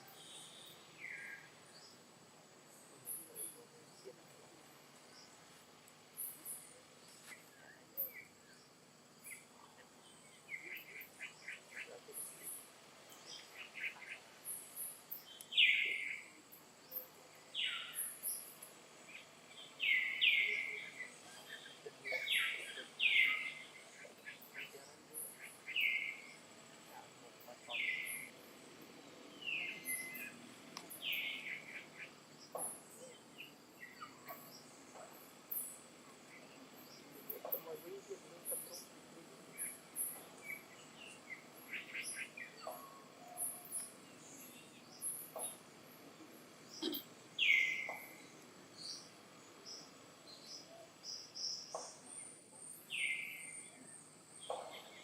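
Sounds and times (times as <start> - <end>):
high chirping calls: 6.1 - 28.4, 29.3 - 45.8, 46.6 - 55.0.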